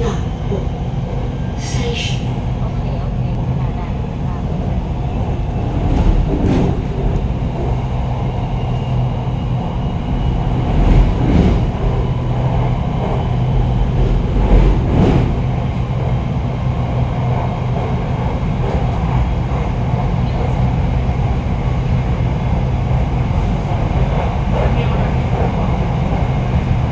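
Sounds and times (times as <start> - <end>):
electric train hum and rumble: 0.0 - 26.9.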